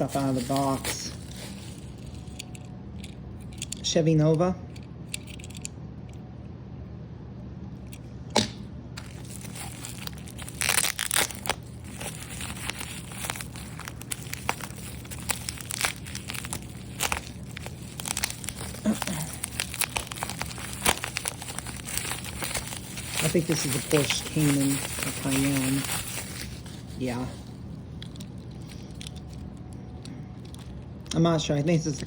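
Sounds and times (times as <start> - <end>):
plastic packaging crinkling: 0.0 - 3.8, 9.0 - 31.2.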